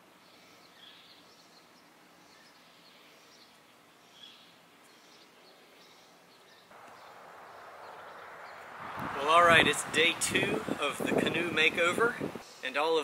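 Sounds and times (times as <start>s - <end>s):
faint outdoor hiss: 0.0s - 13.0s
distant bird chirps: 0.3s - 10.8s.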